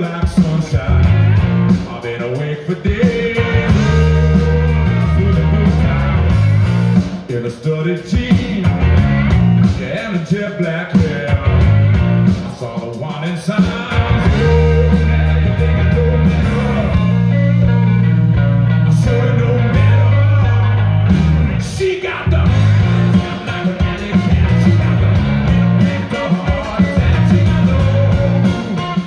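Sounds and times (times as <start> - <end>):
bass guitar: 0.0 - 29.0
drums: 0.0 - 29.0
electric guitar: 0.0 - 29.0
man singing: 0.0 - 29.0.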